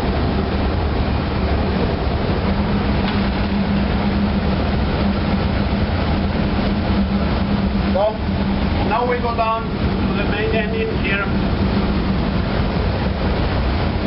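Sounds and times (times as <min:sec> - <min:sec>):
diesel engine machinery noise: 0:00.0 - 0:14.0
low hum: 0:00.0 - 0:14.0.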